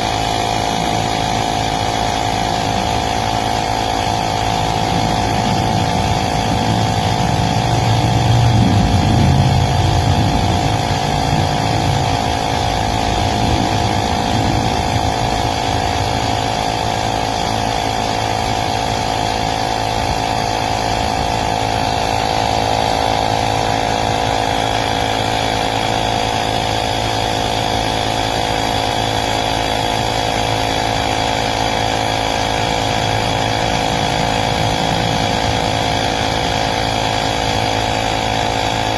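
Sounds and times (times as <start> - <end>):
low rumble: 0.0 - 25.8, 29.6 - 38.9
air compressor buzzing drone: 0.0 - 38.9.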